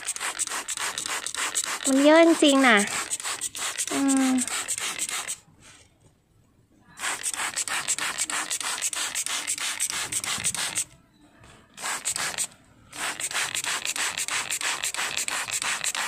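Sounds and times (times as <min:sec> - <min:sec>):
spray bottle hissing mist: 0:00.0 - 0:05.4, 0:07.0 - 0:10.9, 0:11.8 - 0:16.0.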